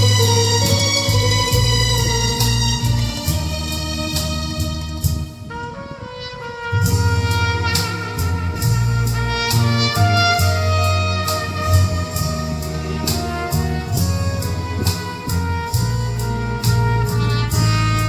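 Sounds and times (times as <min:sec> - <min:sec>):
bass and drum beat: 0:00.0 - 0:05.6, 0:06.8 - 0:18.0
saxophone melody: 0:00.0 - 0:18.0.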